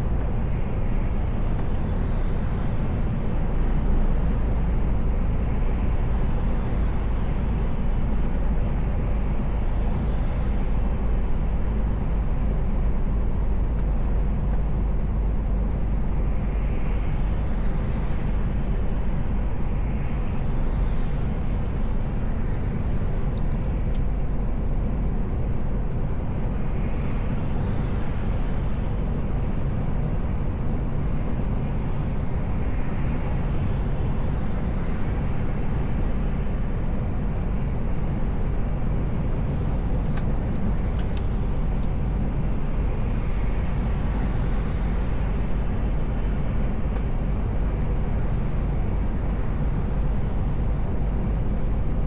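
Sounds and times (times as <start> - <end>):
road and tyre noise: 0.0 - 52.0.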